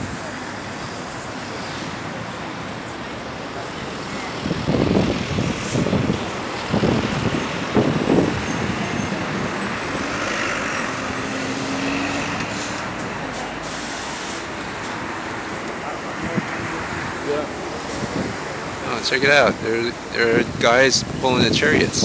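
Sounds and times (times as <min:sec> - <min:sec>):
engine hum: 0:00.0 - 0:22.0
passing road vehicles: 0:00.0 - 0:22.0.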